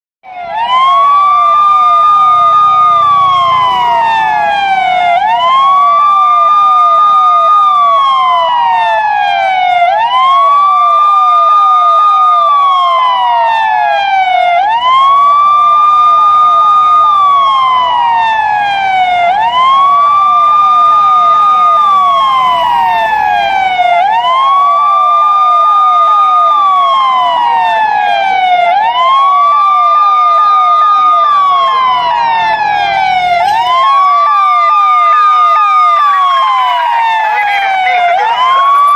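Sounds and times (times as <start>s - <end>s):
police siren wailing: 0.2s - 38.9s.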